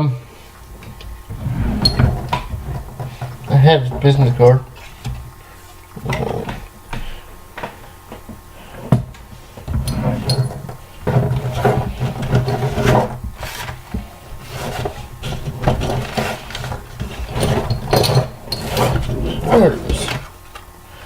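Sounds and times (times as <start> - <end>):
handling noises rubbing and rustling: 0.4 - 21.0.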